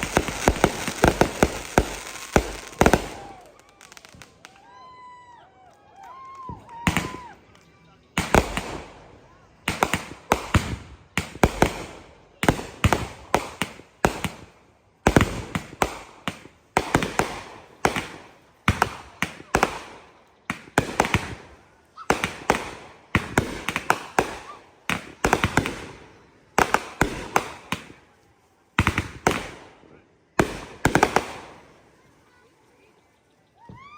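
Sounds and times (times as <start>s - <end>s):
fireworks bangs: 0.0s - 4.6s, 6.4s - 32.9s.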